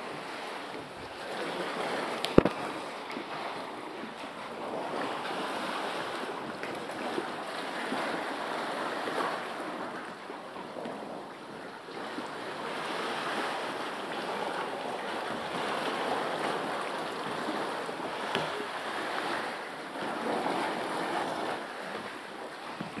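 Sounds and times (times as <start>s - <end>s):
seawater surging in a cave: 0.0s - 23.0s.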